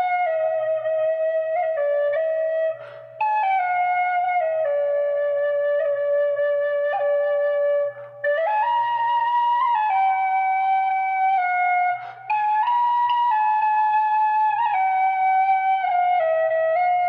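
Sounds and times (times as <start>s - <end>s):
flute playing slow melody: 0.0s - 17.0s.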